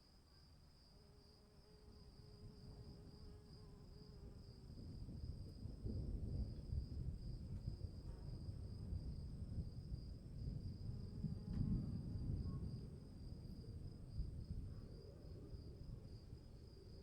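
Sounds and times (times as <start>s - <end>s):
crickets trilling: 0.3s - 17.0s.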